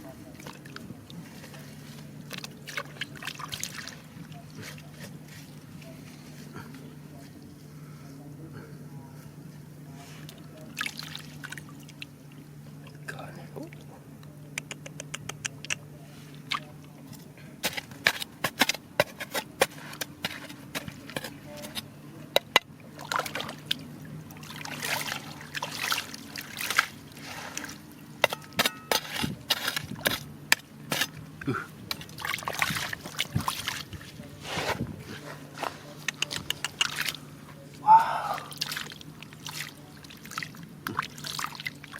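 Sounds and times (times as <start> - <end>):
water sloshing and trickling: 0.0 - 8.2, 9.2 - 14.3, 16.0 - 41.9
steady low hum: 0.0 - 41.9.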